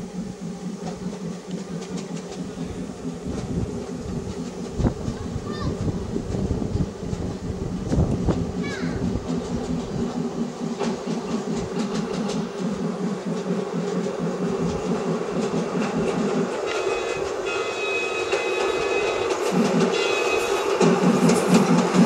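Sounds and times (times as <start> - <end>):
miniature train low rumble: 0.0 - 22.0
wheels clicking over rail joints: 0.0 - 22.0.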